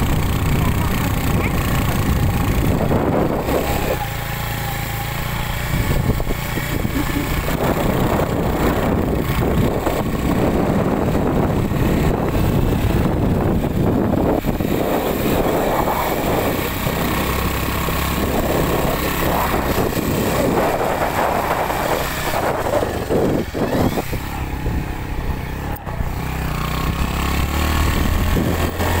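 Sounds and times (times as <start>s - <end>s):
vehicle driving rumble: 0.0s - 29.0s.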